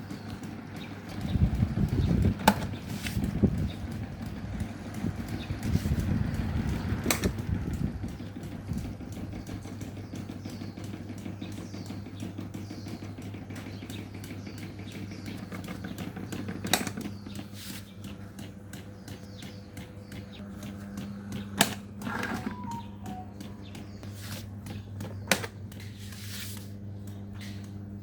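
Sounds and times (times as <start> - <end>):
electric fan running: 0.0 - 28.0.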